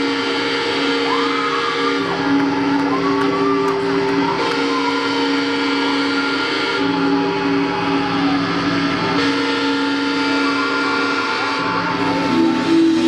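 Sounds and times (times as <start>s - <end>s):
electric guitars sustained chords: 0.0s - 13.0s
higher sliding pitch line: 0.0s - 13.0s.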